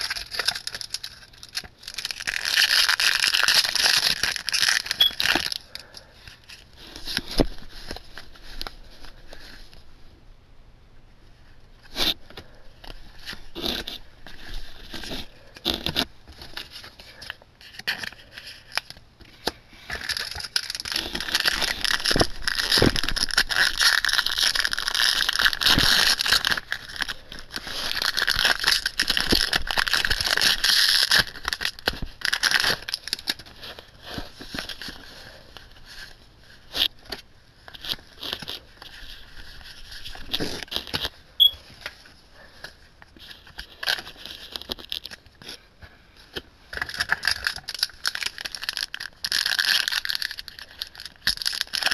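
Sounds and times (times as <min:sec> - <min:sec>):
foil wrapper crinkling and tearing: 0:00.0 - 0:09.7, 0:11.8 - 0:51.9.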